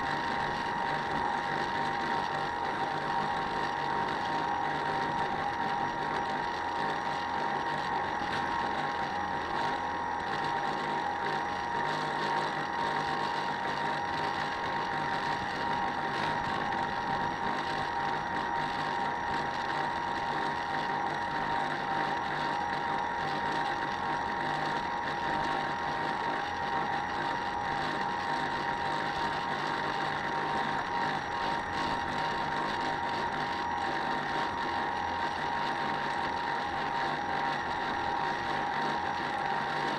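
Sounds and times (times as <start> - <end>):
small motor whining: 0.0 - 39.9.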